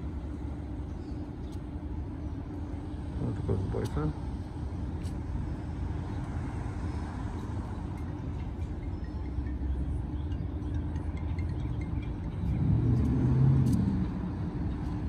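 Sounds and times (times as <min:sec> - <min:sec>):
traffic rumble: 0:00.0 - 0:15.0
vehicle engine: 0:00.0 - 0:15.0.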